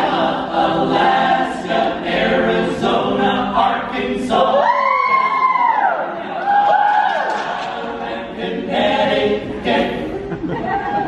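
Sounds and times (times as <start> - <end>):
a cappella choir singing: 0.0 - 11.0.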